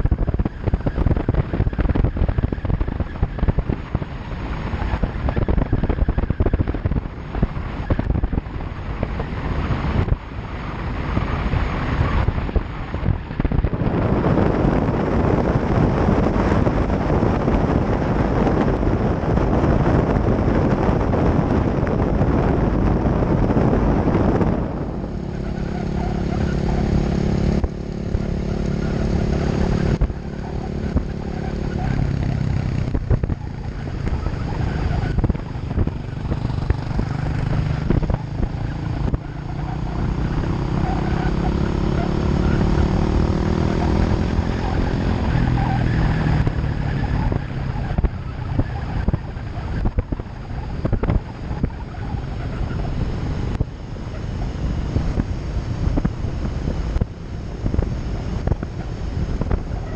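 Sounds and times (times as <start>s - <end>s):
vehicle engine speeding up: 0.0s - 59.9s
wind buffeting microphone: 0.0s - 59.9s.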